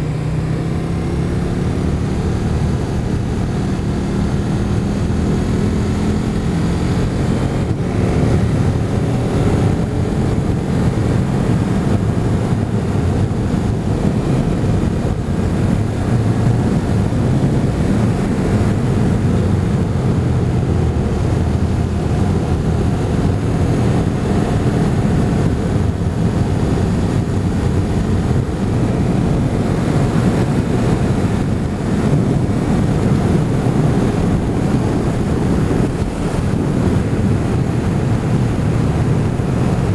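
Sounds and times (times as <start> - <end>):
motorcycle engine: 0.0 - 39.9
wind buffeting microphone: 0.0 - 39.9.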